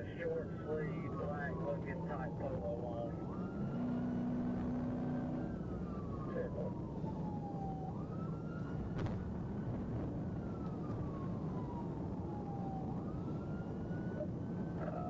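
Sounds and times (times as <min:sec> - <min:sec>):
police siren wailing: 0:00.0 - 0:15.0
road and engine rumble: 0:00.0 - 0:15.0.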